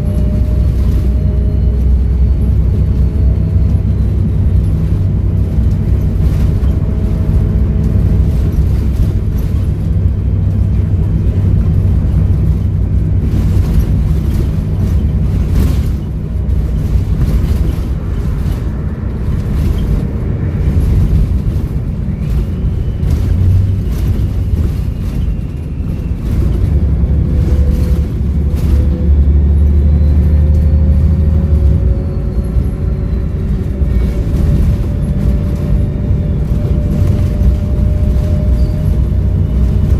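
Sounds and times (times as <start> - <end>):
bus diesel engine rumbling: 0.0 - 39.9.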